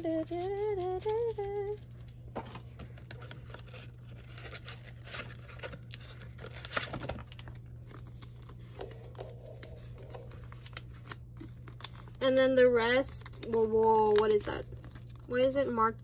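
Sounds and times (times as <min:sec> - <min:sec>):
low steady hum: 0:00.0 - 0:16.0
plastic sleeves rustling and crinkling: 0:00.0 - 0:16.0.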